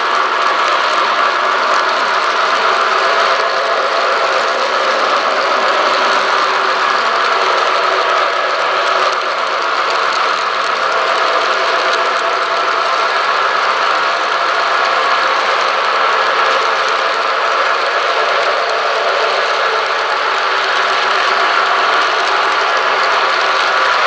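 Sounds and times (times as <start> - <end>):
model train running: 0.0 - 24.0.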